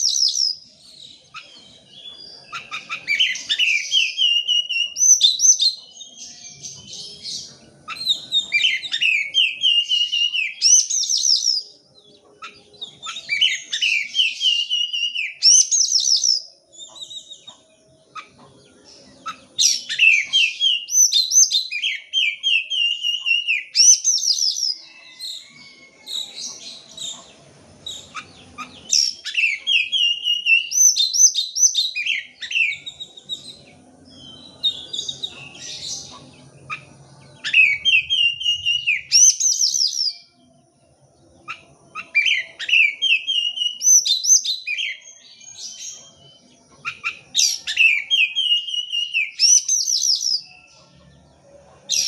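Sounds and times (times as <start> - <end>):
bird singing whistles and trills: 0.0 - 51.0.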